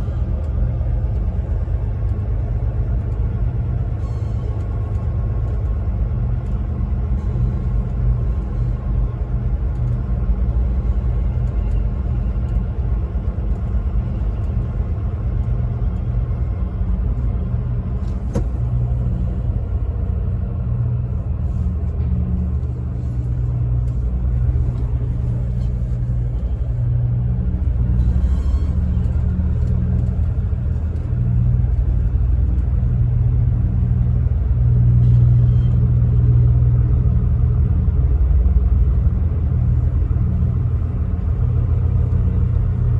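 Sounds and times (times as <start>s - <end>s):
truck engine droning: 0.0s - 42.9s.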